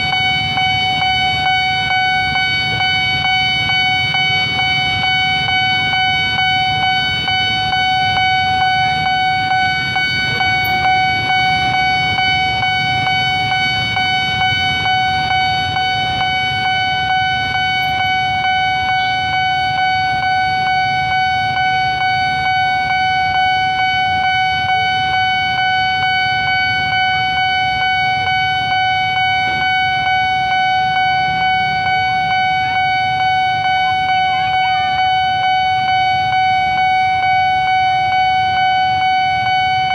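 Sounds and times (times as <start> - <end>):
level crossing alarm tone: 0.0 - 39.9
traffic rumble: 0.0 - 39.9.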